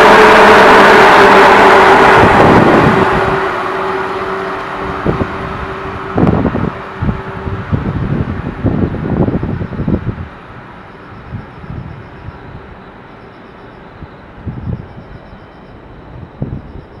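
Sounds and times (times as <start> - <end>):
faint rumble of departing train: 0.0 - 17.0
train wheels rumbling on rails: 0.0 - 17.0.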